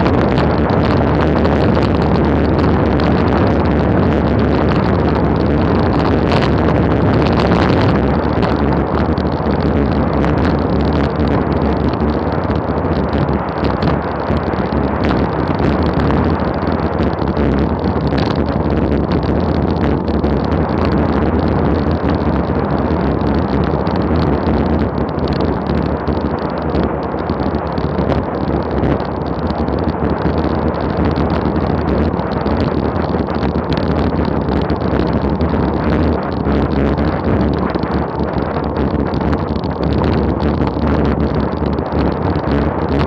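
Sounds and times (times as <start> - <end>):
wind noise on camera microphone: 0.0 - 43.0.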